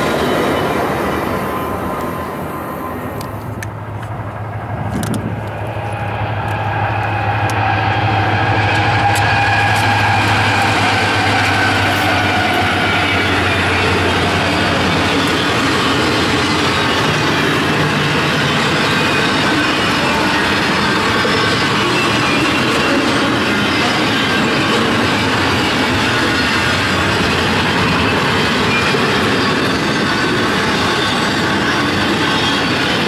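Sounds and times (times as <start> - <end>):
diesel locomotive engine hum: 0.0 - 33.0
train wheels on rails: 0.0 - 33.0.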